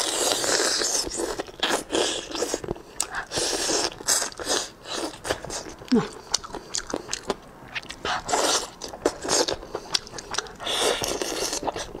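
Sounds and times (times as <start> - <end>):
crunchy chewing: 0.0 - 12.0
wet biting and chewing: 0.0 - 12.0.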